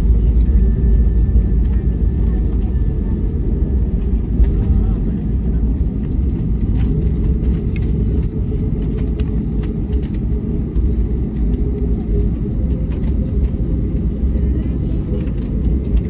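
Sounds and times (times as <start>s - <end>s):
deep cabin rumble: 0.0s - 16.0s.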